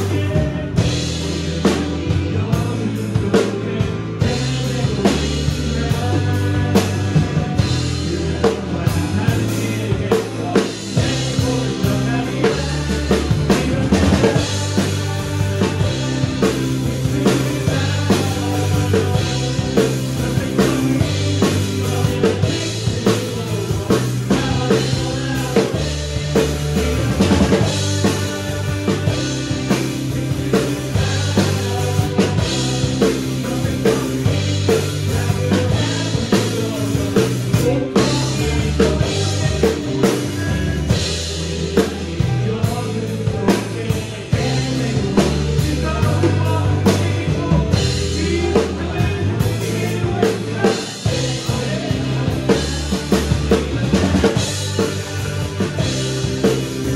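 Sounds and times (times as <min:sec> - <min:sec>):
acoustic drum kit: 0:00.0 - 0:56.9
recorded worship band track: 0:00.0 - 0:56.9.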